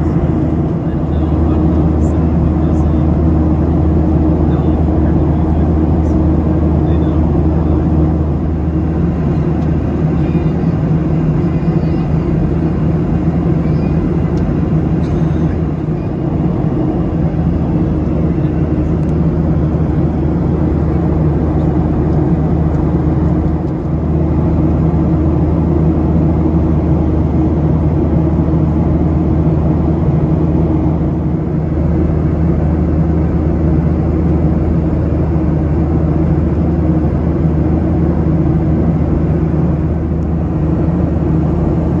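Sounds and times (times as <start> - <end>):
aircraft cabin drone: 0.0 - 42.0.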